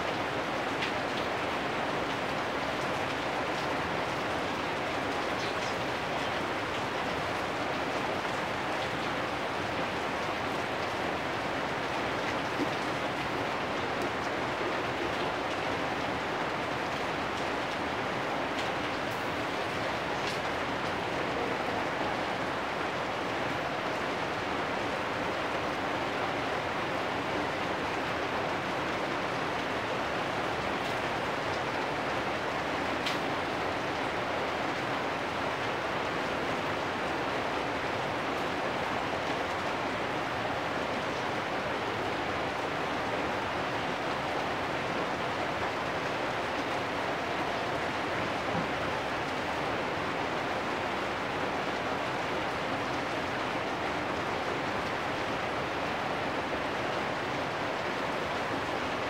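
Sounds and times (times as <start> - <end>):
rain on metal roofs: 0.0 - 59.0.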